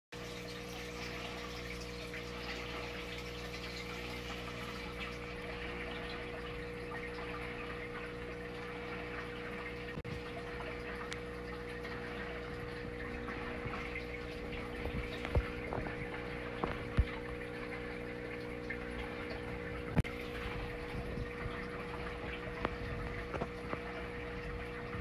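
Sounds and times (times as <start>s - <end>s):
low pump hum: 0.2s - 25.0s.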